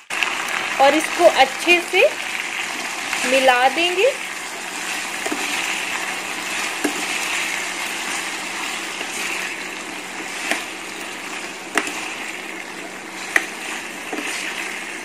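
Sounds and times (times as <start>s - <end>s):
potatoes sizzling in hot fat: 0.0s - 15.0s.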